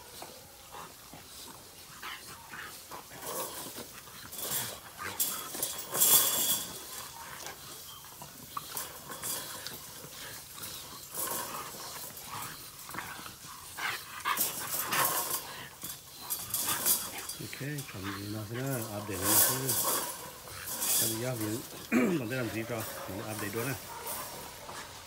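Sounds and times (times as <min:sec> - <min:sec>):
dogs scuffling: 0:00.0 - 0:25.0
sharp scraping sounds: 0:00.0 - 0:25.0.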